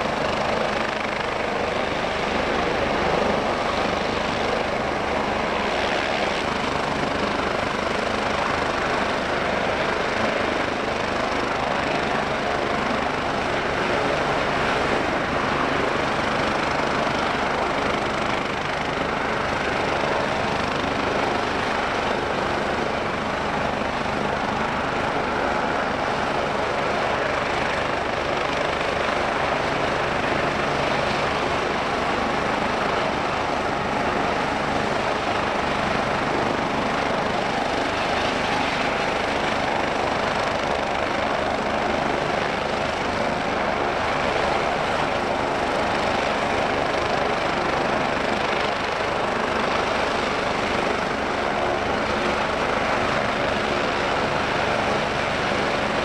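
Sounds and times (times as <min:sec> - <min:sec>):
helicopter rotor blade beat: 0:00.0 - 0:56.0
helicopter turbine whine: 0:00.0 - 0:56.0.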